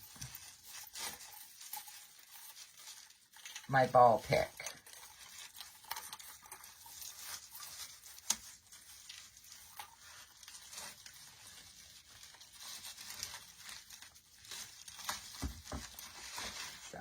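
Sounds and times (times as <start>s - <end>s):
artificial foliage rustling: 0.0s - 17.0s.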